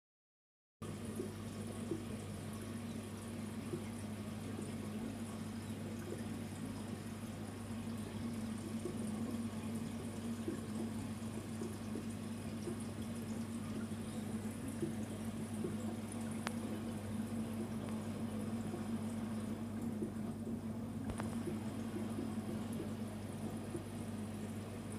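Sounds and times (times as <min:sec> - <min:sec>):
sponge filter bubbling: 0:00.8 - 0:24.9.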